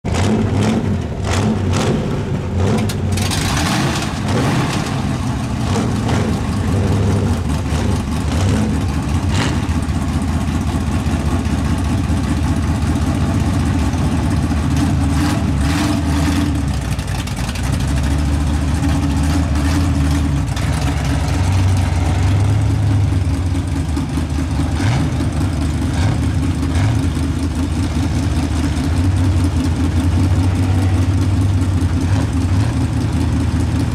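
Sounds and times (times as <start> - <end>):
truck engine running near idle: 0.0 - 33.9.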